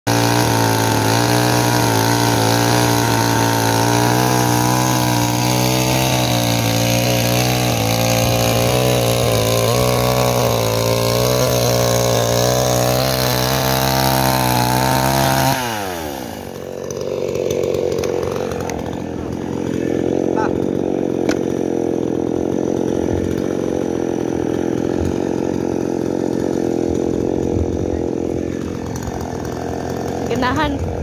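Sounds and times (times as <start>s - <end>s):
chainsaw cutting logs: 0.1s - 31.0s.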